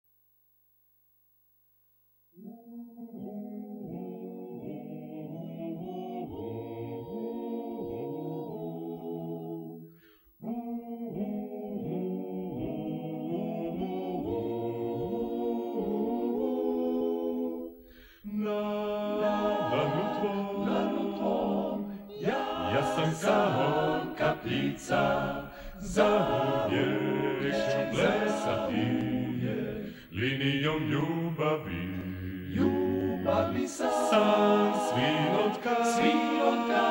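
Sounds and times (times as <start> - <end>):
male choir singing in harmony: 2.4 - 36.9.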